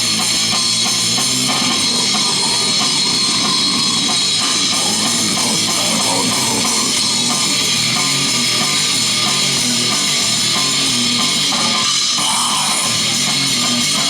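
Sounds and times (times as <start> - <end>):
heavy rock band playing live: 0.0 - 14.0.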